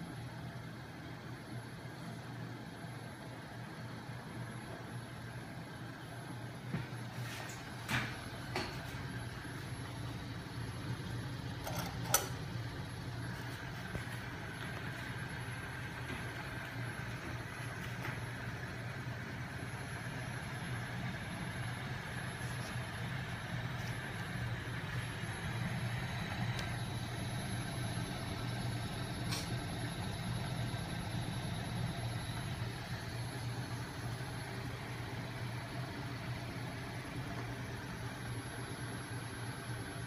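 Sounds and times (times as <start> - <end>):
flywheel machine low drone: 0.0 - 40.0.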